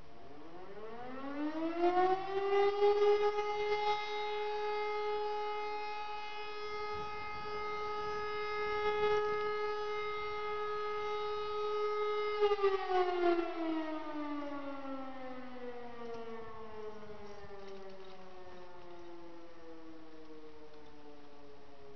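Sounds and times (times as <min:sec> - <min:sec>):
electric motor siren: 0:00.3 - 0:21.9.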